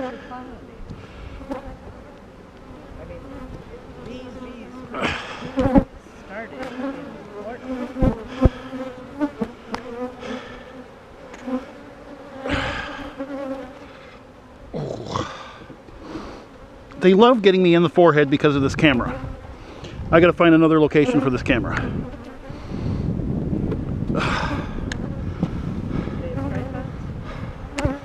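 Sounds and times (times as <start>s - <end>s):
bees buzzing: 0.0s - 23.6s, 24.2s - 28.0s.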